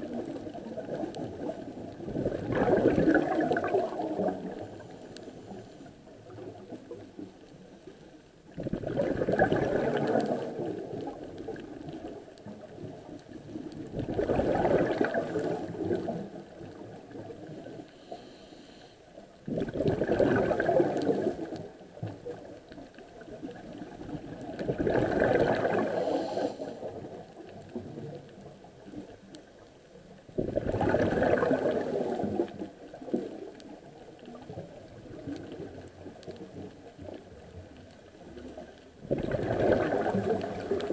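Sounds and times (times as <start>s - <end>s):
underwater exhaled bubbles: 0.0s - 40.9s.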